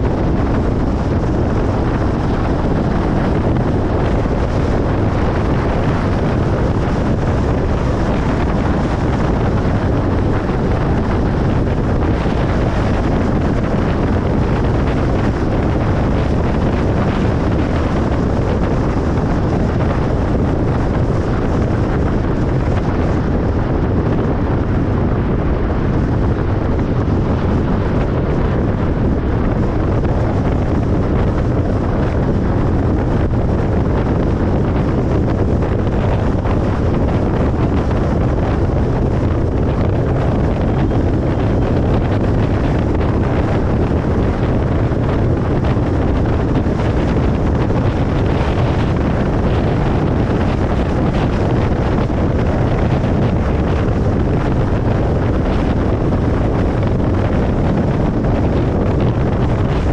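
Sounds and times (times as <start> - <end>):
car road noise on highway: 0.0 - 59.9.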